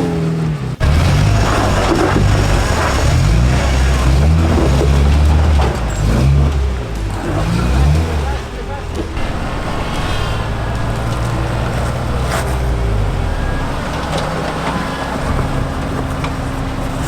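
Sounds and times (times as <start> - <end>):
vehicle engine running at low revs: 0.0 - 17.0.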